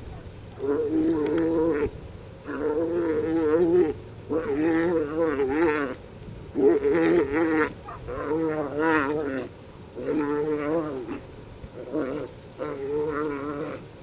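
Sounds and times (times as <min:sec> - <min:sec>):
cattle bawling: 0:00.0 - 0:14.0.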